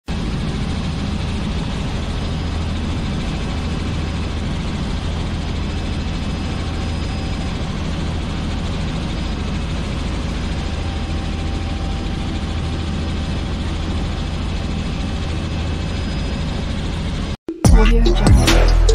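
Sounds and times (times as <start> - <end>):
helicopter engine and rotor drone: 0.0 - 17.4.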